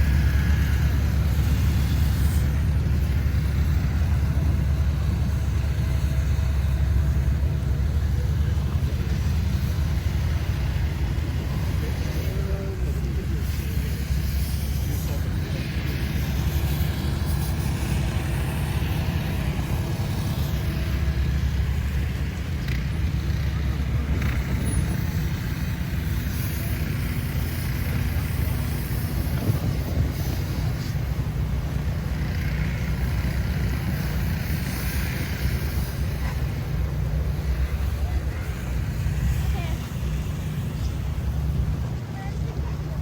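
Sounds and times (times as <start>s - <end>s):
low rumble of road traffic: 0.0s - 43.0s.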